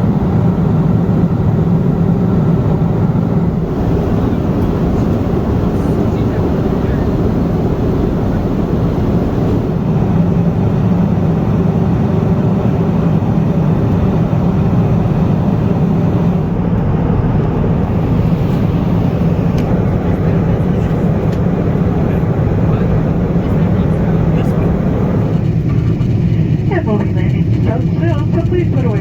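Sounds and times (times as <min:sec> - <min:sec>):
airplane cabin engine drone: 0:00.0 - 0:29.0.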